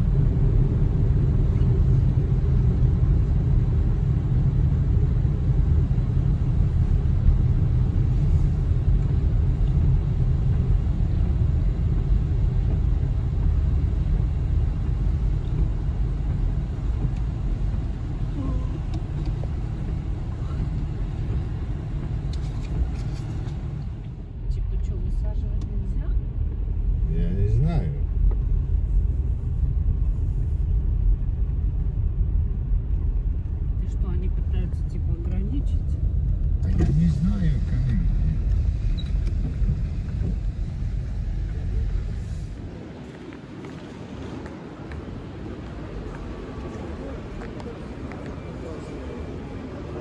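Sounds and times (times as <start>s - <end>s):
low vehicle rumble: 0.0s - 50.0s.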